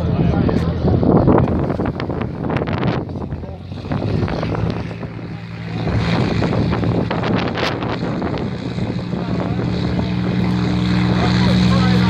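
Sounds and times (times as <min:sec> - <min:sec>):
aircraft engine hum: 0:00.0 - 0:12.0
wind buffeting microphone: 0:00.0 - 0:12.0.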